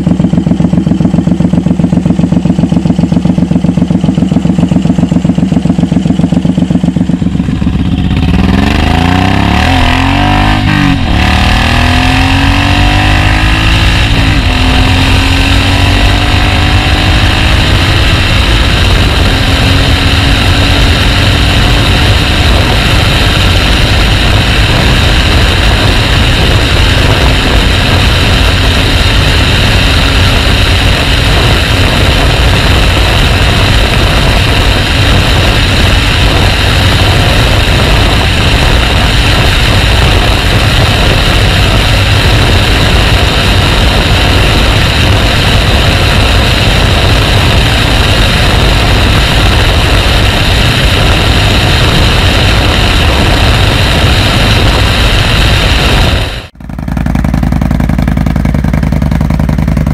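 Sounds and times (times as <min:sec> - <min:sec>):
motorcycle engine: 0:00.0 - 0:59.9
wind rushing over microphone: 0:07.0 - 0:56.6.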